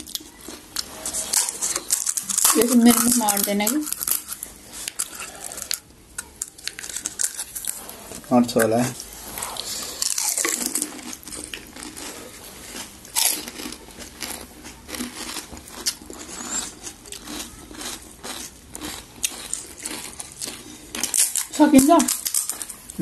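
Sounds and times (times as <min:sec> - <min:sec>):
crisp shells crunching: 0:00.0 - 0:23.0.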